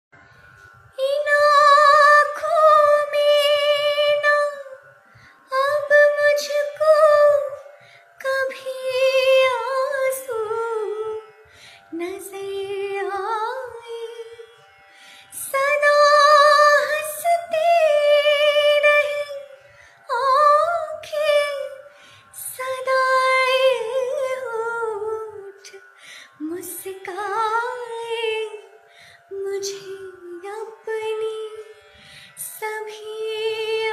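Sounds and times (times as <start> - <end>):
young woman singing a slow melody: 0.9 - 4.8, 5.4 - 11.2, 11.9 - 14.4, 15.3 - 25.8, 26.4 - 28.7, 29.3 - 31.7, 32.4 - 33.9.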